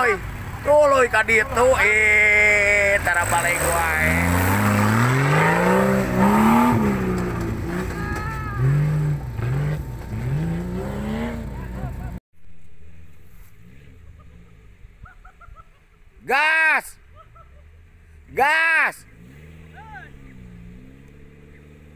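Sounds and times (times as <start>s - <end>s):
off-road vehicle engine revving: 0.0s - 12.2s, 12.8s - 15.4s, 17.2s - 21.9s.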